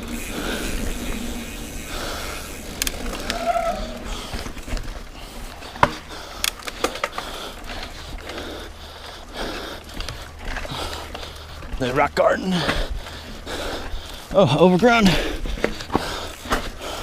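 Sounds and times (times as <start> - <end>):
bike knocks and rattles: 0.0 - 8.4, 9.8 - 17.0
bike tyres rumbling on trail: 0.0 - 17.0.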